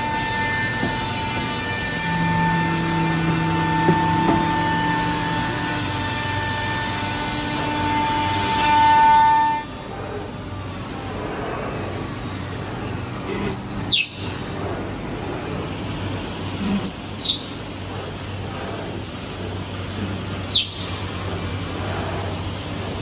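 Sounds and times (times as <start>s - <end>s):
milling machine humming: 0.0s - 23.0s.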